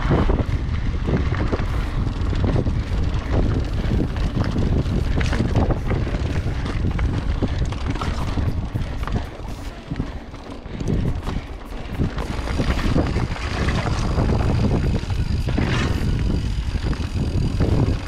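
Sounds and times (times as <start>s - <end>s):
bike clicking and rattling: 0.0s - 18.0s
bike tyres crunching on rocky trail: 0.0s - 18.0s
wind buffeting microphone: 0.0s - 18.0s.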